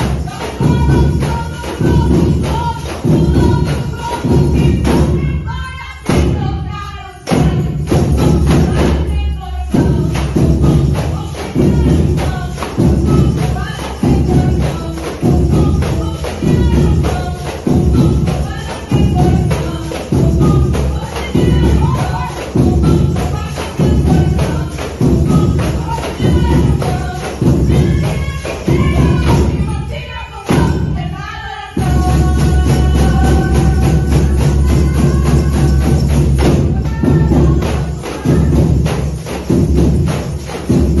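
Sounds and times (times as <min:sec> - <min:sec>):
drums beating: 0:00.0 - 0:31.2, 0:31.8 - 0:41.0
person singing: 0:00.0 - 0:39.0
percussion band with tambourines: 0:00.0 - 0:41.0.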